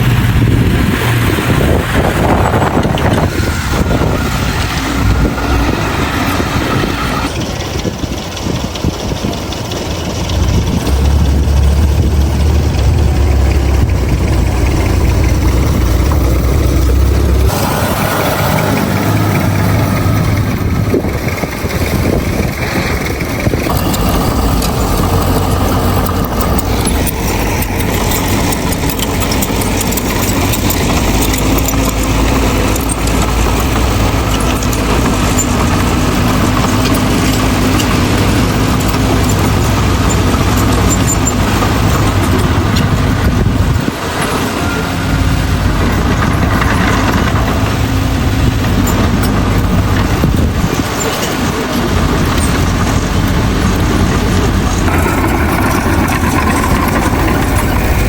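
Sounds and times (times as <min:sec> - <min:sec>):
heavy diesel engines rumbling: 0:00.0 - 0:58.0.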